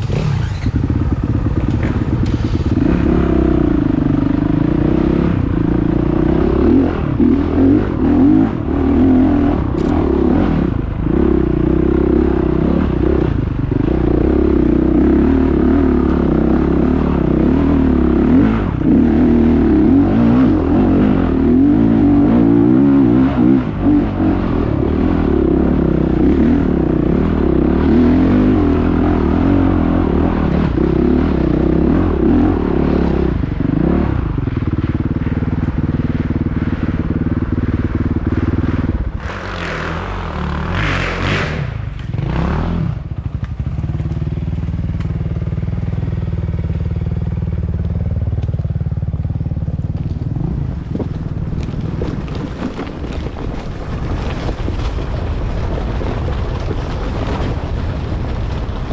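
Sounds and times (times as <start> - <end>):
motorcycle engines revving: 0.0 - 54.4.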